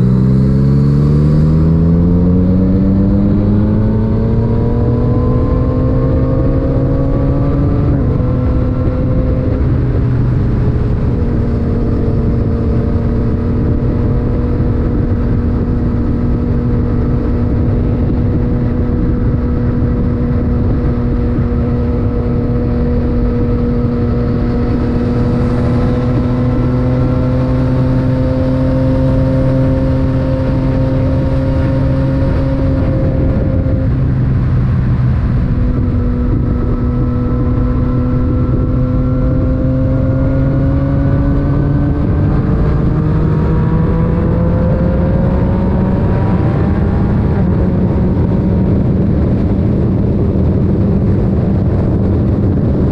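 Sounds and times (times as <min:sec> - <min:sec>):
motorcycle engine accelerating: 0:00.0 - 0:52.9
wind rush on microphone: 0:00.0 - 0:52.9.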